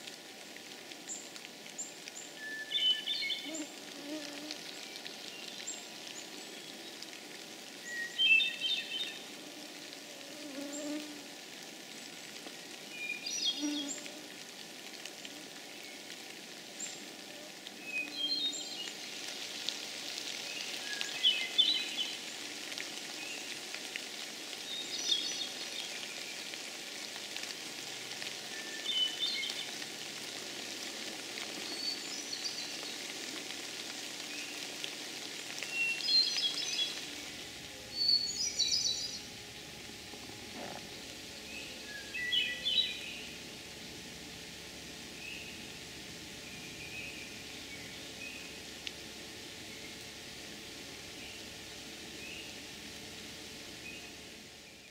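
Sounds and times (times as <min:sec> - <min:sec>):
background hiss: 0:00.0 - 0:54.9.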